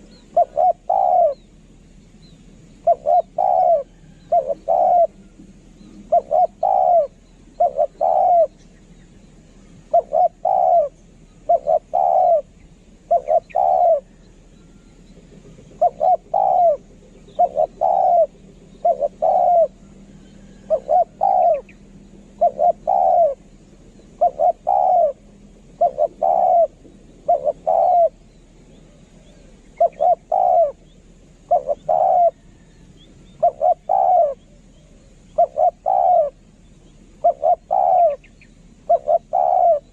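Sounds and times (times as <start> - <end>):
dove cooing: 0.0 - 1.8, 2.7 - 8.7, 9.3 - 39.9.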